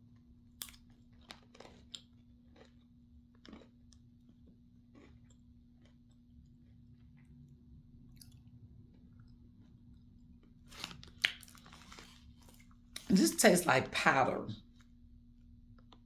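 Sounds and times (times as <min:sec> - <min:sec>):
chewing crunchy snack: 0:00.0 - 0:13.1
low steady hum: 0:00.0 - 0:16.0.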